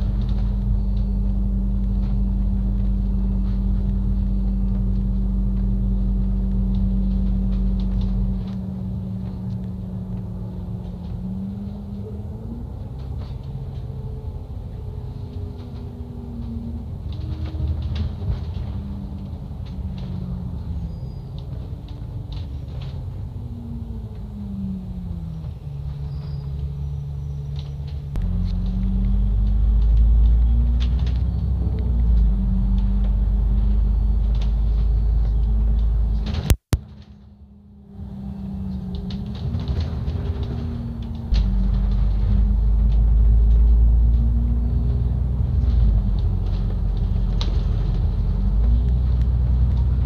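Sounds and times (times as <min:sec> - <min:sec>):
bus diesel engine rumble: 0:00.0 - 0:50.0.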